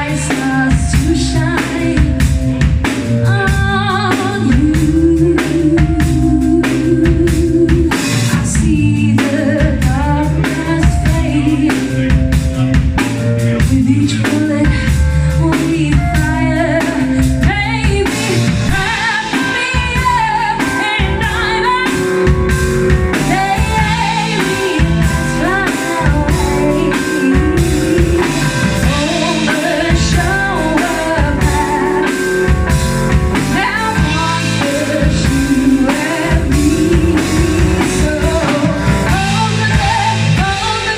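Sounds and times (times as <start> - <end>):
person singing: 0.0 - 32.3, 33.4 - 40.9
live band playing: 0.0 - 40.9.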